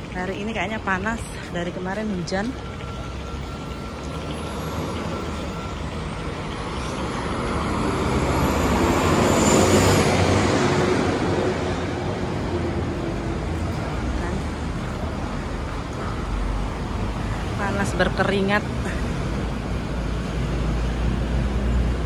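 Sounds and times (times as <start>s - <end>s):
road traffic: 0.0s - 22.0s
large vehicle passing: 2.6s - 22.0s.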